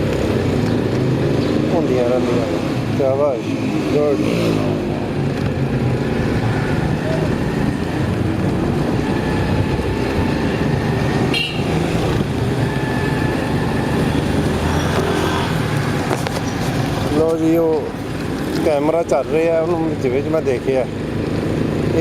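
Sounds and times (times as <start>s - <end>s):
road and traffic noise: 0.0s - 22.0s.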